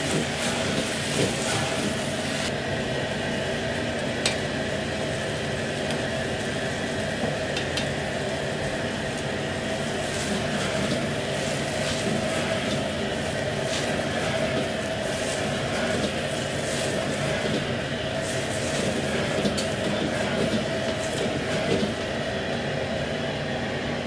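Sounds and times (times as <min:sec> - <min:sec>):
vegetables sizzling in a wok: 0:00.0 - 0:02.5, 0:04.2 - 0:22.4
gas burner running: 0:00.0 - 0:24.0.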